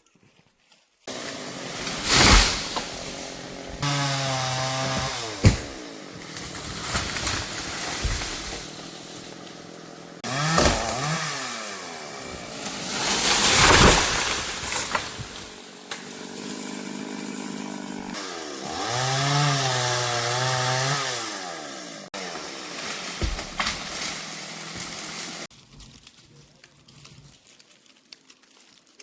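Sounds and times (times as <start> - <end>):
chainsaw revving and cutting wood: 1.1 - 25.5.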